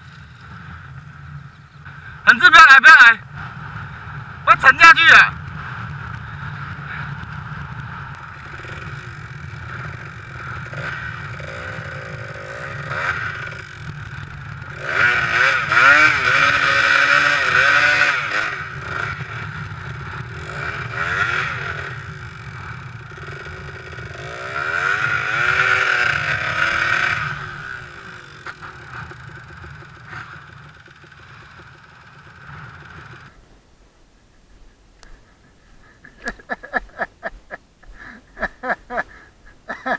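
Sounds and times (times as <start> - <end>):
dirt bike engine revving: 0.0 - 33.4.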